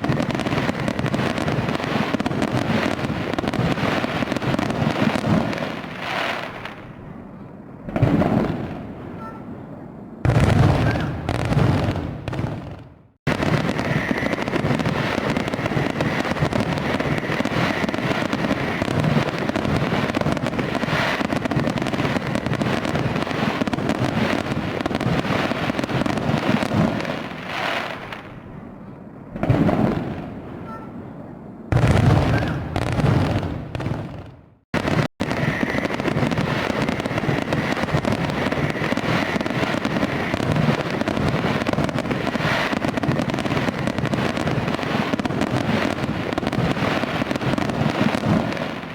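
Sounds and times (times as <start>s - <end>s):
fireworks crackling and banging: 0.0s - 9.6s, 10.2s - 31.0s, 31.7s - 48.9s.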